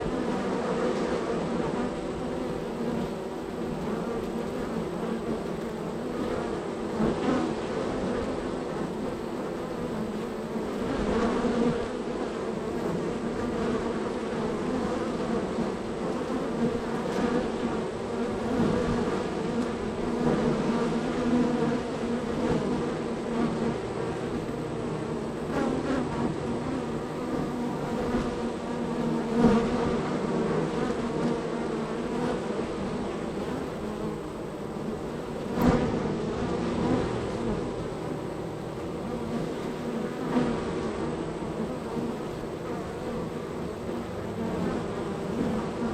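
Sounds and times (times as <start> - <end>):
bees buzzing: 0.0 - 45.9.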